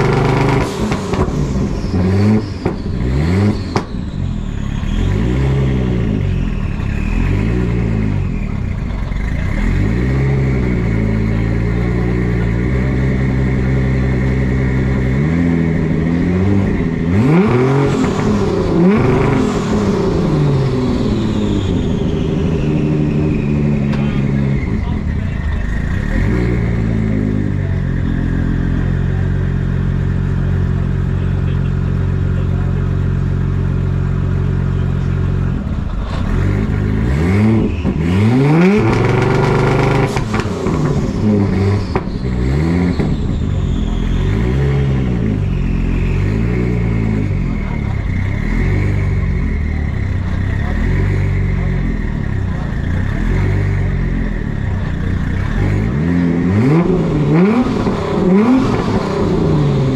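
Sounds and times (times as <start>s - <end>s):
car engine revving in blips: 0.0s - 59.9s.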